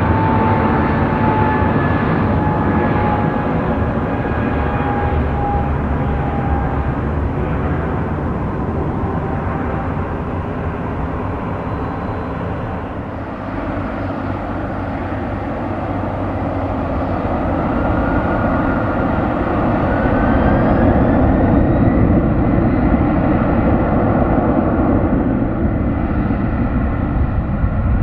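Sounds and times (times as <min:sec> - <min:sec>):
jet engine rumble and hiss: 0:00.0 - 0:28.0
jet engine whine: 0:00.0 - 0:28.0.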